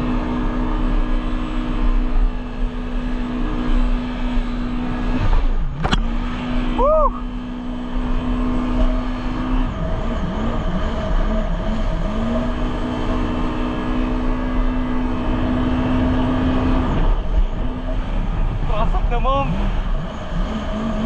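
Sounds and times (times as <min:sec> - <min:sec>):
jet ski engine running: 0:00.0 - 0:21.0.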